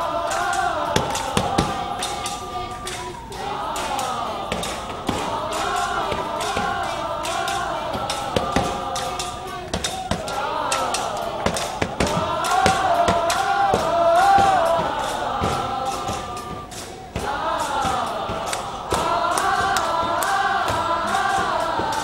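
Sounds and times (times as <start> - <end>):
crowd singing together: 0.0 - 22.0.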